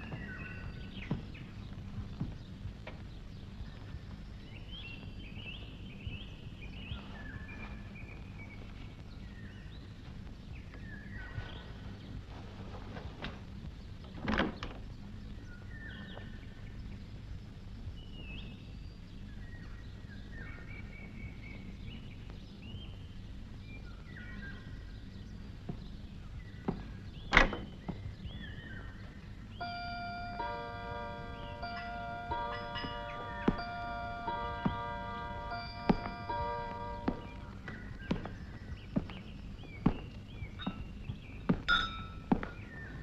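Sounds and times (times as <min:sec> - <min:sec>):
steady low rumble: 0:00.0 - 0:14.1, 0:14.8 - 0:43.0
small birds chirping: 0:00.0 - 0:43.0.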